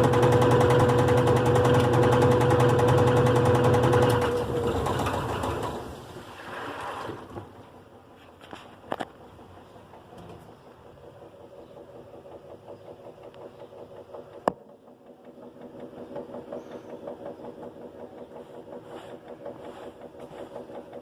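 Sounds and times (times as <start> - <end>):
washing machine pulsing hum: 0.0 - 21.0.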